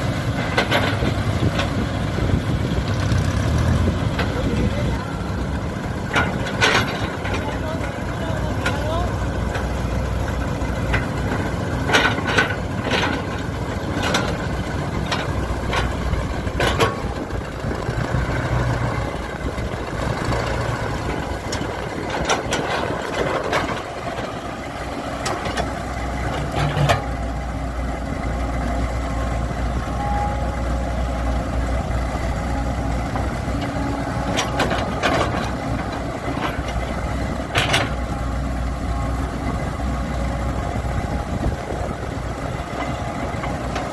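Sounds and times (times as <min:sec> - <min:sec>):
heavy machinery engine running: 0:00.0 - 0:43.9.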